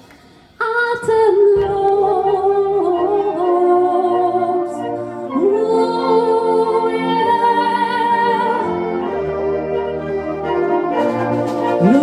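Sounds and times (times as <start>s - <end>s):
instrumental backing music: 1.0s - 12.0s.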